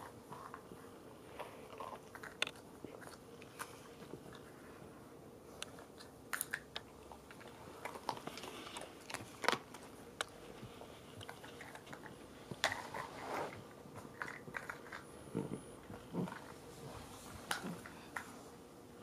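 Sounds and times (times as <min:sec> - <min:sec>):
dog chewing treats: 0:00.3 - 0:04.6, 0:05.6 - 0:16.6.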